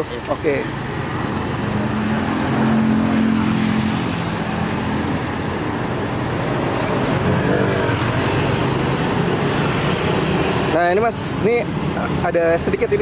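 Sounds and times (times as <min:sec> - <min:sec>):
continuous traffic noise: 0:00.0 - 0:13.0
vehicle engine humming: 0:00.0 - 0:13.0
engine passing by: 0:00.5 - 0:11.0.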